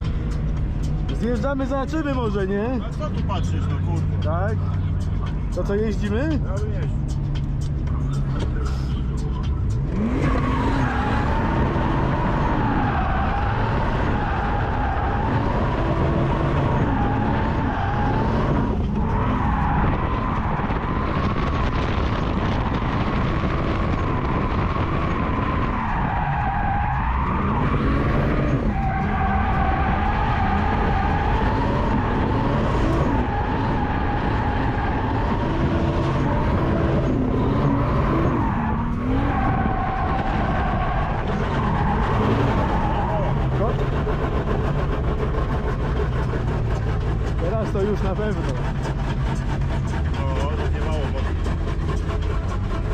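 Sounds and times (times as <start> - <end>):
car engine revving: 0.0 - 52.9
tyres skidding: 0.0 - 52.9.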